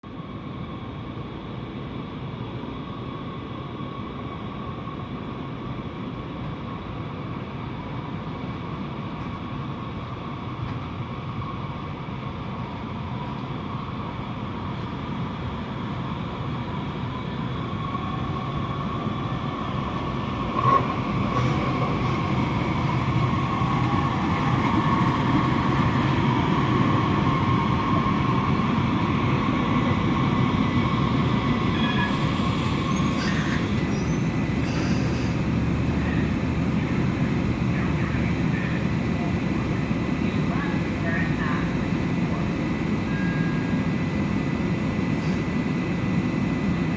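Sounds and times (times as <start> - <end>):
train rumbling: 0.2 - 46.9.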